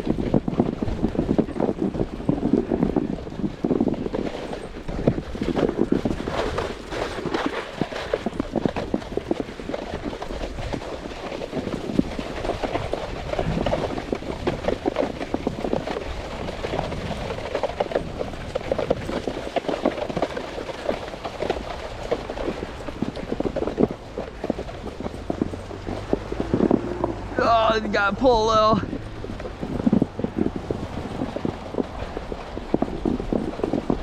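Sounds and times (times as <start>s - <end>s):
dog paws crunching on snow: 0.0s - 34.0s.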